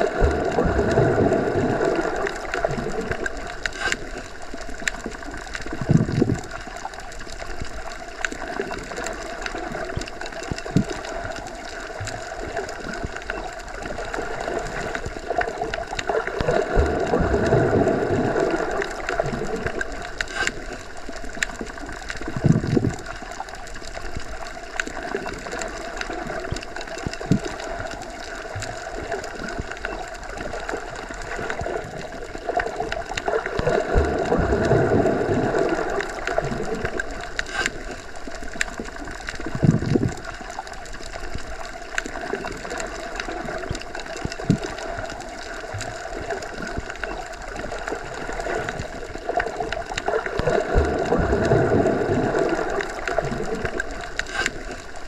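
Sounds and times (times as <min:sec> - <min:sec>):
underwater water noise: 0:00.0 - 0:55.0
faint clicks: 0:02.0 - 0:55.0.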